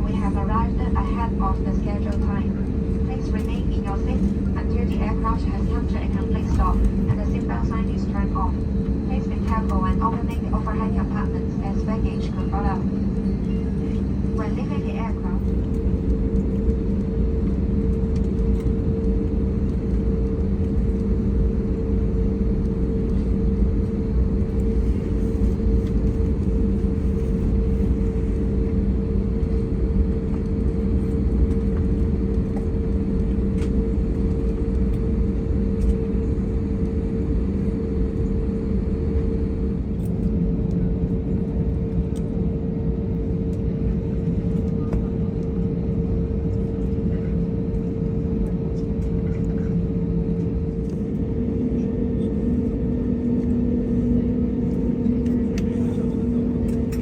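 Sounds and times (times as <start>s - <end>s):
aircraft cabin rumble and hum: 0.0s - 57.0s.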